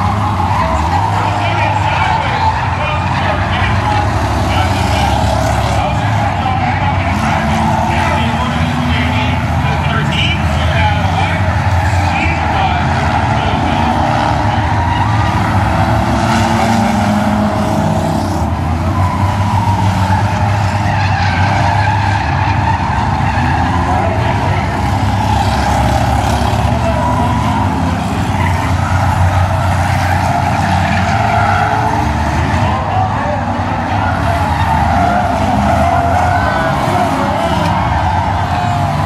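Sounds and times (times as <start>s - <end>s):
racing car engines droning: 0.0s - 39.0s
tires squealing: 0.0s - 39.0s.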